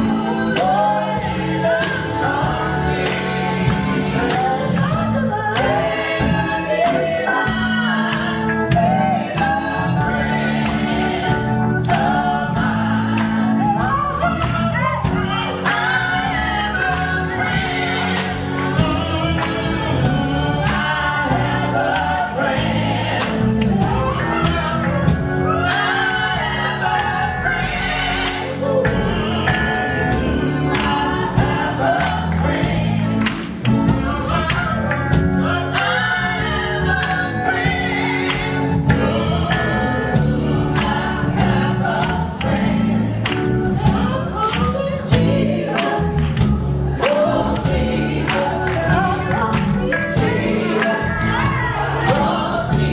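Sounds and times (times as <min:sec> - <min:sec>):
vocal group singing gospel: 0:00.0 - 0:52.9.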